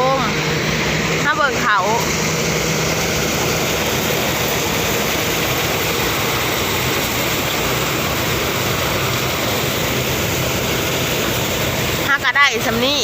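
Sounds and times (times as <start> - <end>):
combine harvester engine drone: 0.0 - 13.0
threshing machinery noise: 0.0 - 13.0.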